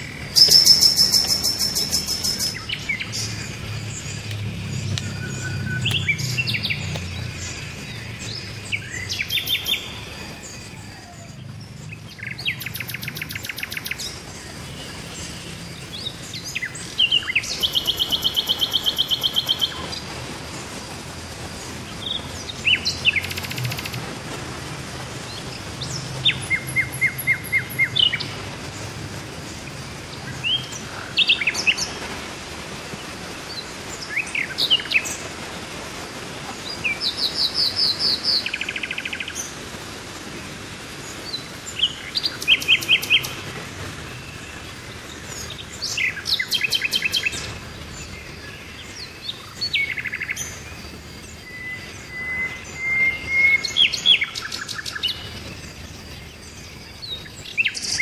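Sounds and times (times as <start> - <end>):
birds chirping and trilling: 0.0 - 20.1, 21.6 - 32.4, 41.0 - 58.0
outdoor background hiss: 0.0 - 58.0.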